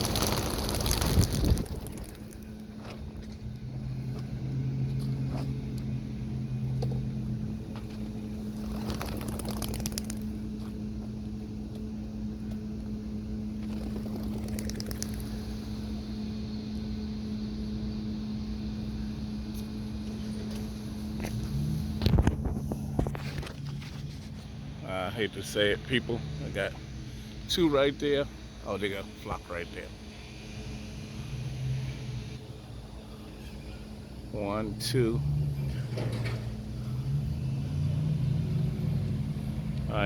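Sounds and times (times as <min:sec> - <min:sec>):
vehicle engine idling: 0:00.0 - 0:31.4, 0:32.2 - 0:38.1.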